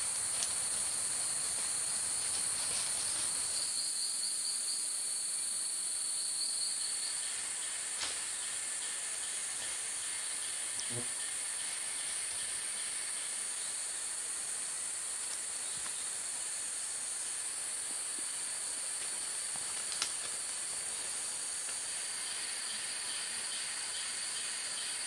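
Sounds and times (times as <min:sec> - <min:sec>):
insect chorus drone: 0:00.0 - 0:25.0.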